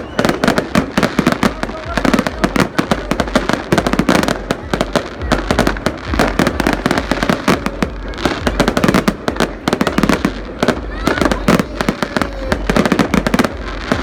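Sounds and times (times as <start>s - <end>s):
firecracker pops: 0.0s - 14.0s
fireworks crackling: 0.0s - 14.0s.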